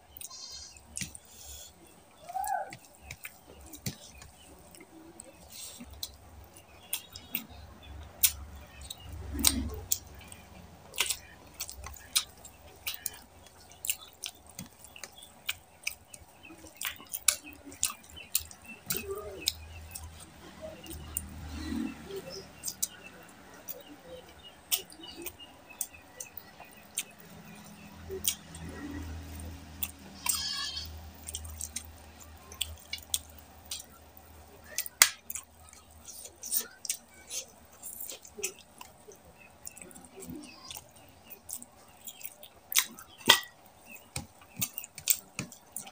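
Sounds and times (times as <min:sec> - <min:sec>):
man chewing food: 0:00.0 - 0:45.9.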